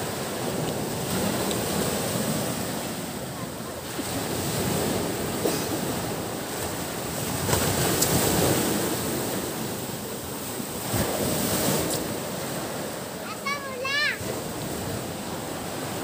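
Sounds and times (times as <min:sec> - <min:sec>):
surf breaking on beach: 0:00.0 - 0:16.0.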